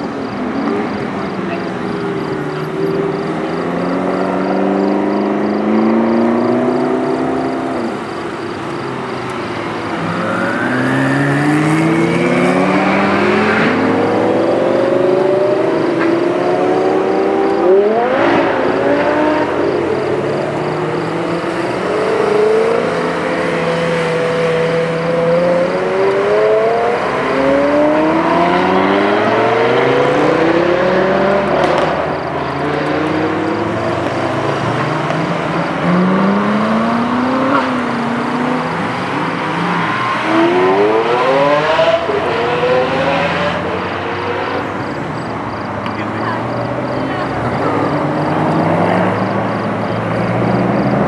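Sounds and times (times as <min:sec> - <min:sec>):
sports car engines revving past: 0:00.0 - 0:51.0.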